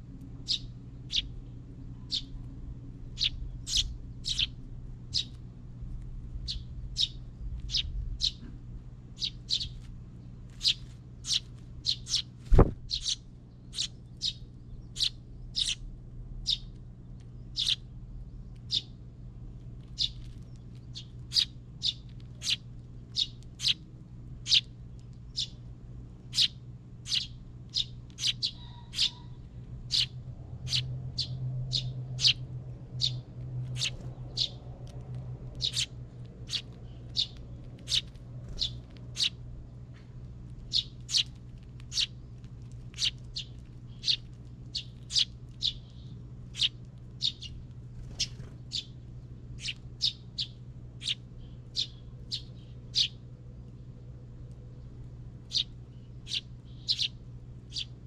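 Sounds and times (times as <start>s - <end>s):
low steady hum: 0.0s - 58.0s
small birds chirping: 0.2s - 58.0s.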